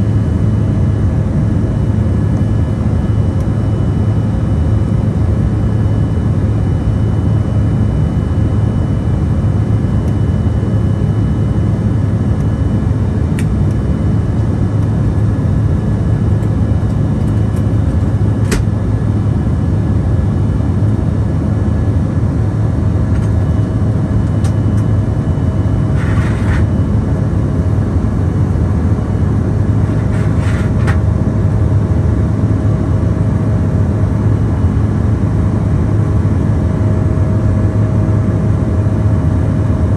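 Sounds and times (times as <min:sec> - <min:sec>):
jet cabin engine drone: 0:00.0 - 0:39.9.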